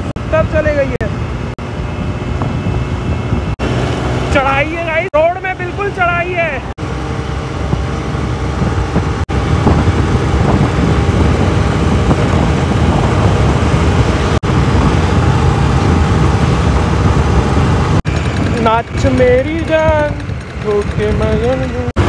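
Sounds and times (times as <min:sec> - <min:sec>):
road noise: 0:00.0 - 0:22.0
scooter engine at full throttle: 0:00.0 - 0:22.0
wind rush on microphone: 0:00.0 - 0:22.0.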